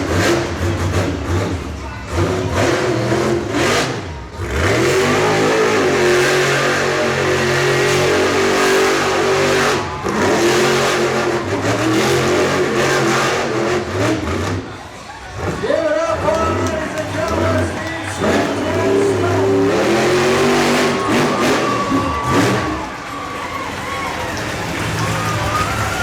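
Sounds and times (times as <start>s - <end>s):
monster truck engine revving hard: 0.0s - 26.0s.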